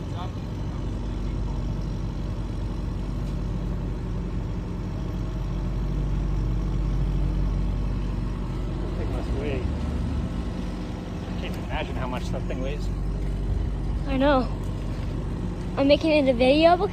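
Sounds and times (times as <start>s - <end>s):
heavy engine droning: 0.0s - 16.9s.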